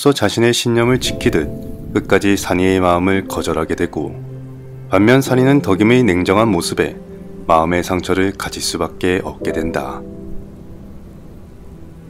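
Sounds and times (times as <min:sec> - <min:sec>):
soft drama background music: 0:00.2 - 0:12.0.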